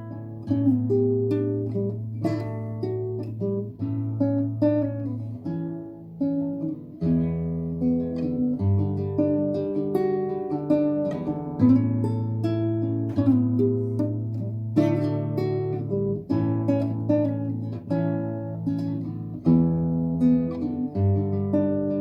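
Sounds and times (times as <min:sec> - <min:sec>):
acoustic guitar picked notes: 0:00.0 - 0:22.0.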